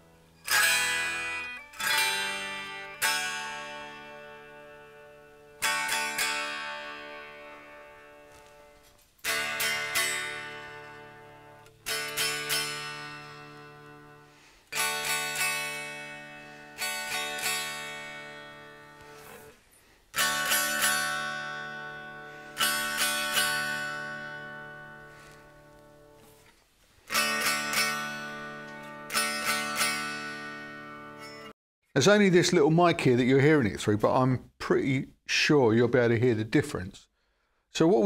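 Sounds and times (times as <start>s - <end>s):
unplugged electric guitar strummed: 0.0s - 26.4s, 27.1s - 31.5s.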